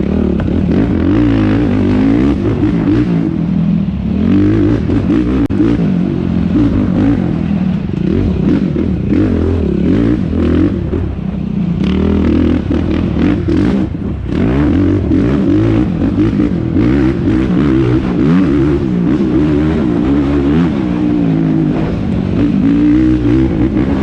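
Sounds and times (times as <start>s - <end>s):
quad engine revving: 0.0s - 11.2s, 11.8s - 24.0s.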